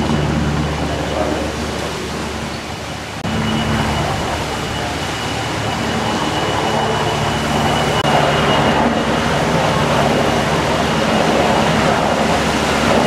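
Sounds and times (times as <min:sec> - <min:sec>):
helicopter engine and rotor drone: 0:00.0 - 0:13.0
high turbine whine: 0:00.0 - 0:13.0.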